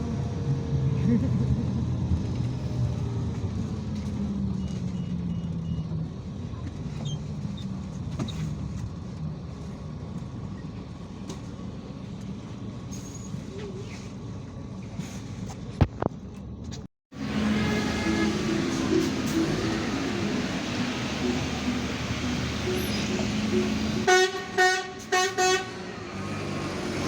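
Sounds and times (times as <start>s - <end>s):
bus engine hum: 0.0s - 27.0s.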